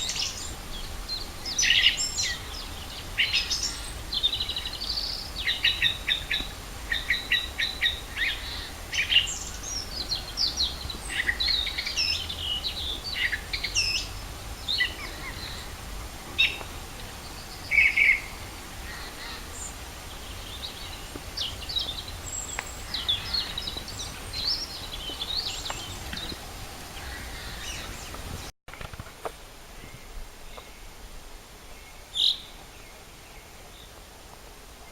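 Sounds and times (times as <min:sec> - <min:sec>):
songbirds chirping and trilling: 0:00.0 - 0:28.9, 0:29.8 - 0:34.9.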